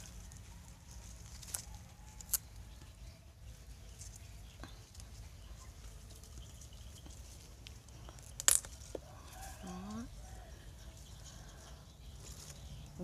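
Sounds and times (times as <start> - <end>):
quiet handling of fruit: 0.0 - 13.0.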